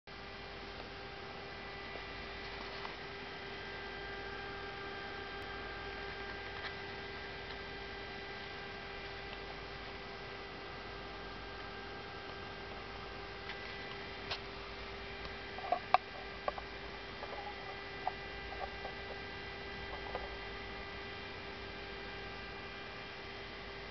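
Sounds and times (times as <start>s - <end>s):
electrical hum with whine: 0.1s - 23.9s.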